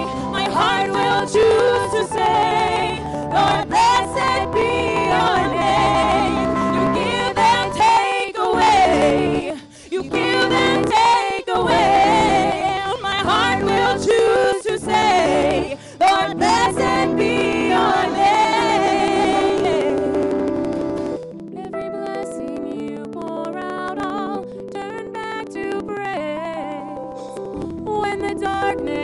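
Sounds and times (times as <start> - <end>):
women singing through microphones: 0.0 - 20.4, 21.6 - 27.0, 27.8 - 29.0.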